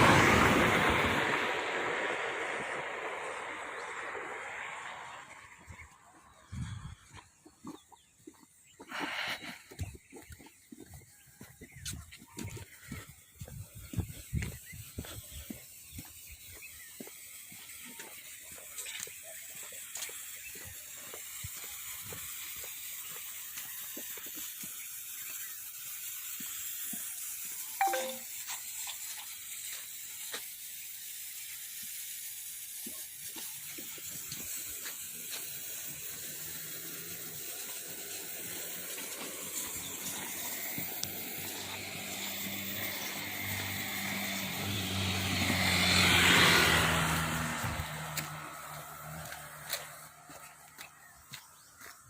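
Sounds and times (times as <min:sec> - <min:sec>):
steady high hiss: 0:00.0 - 0:06.5, 0:12.7 - 0:50.6
vehicle engine hum: 0:00.0 - 0:25.6, 0:31.4 - 0:52.0.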